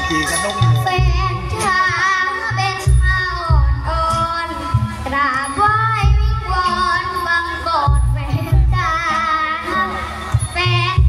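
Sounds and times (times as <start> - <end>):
amplified backing music with bass: 0.0 - 11.0
child singing through speakers: 0.0 - 11.0.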